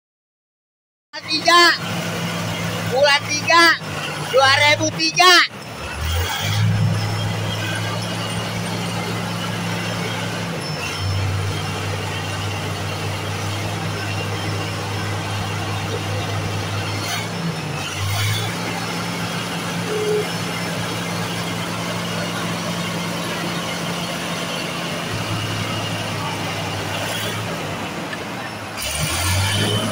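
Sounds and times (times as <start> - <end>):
bulldozer diesel engine running: 1.2 - 29.9.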